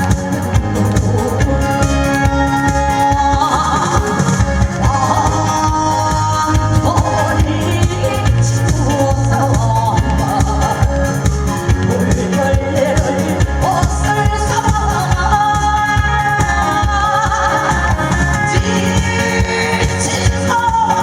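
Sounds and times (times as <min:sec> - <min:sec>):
music accompaniment with steady beat: 0:00.0 - 0:21.0
person singing: 0:00.0 - 0:21.0.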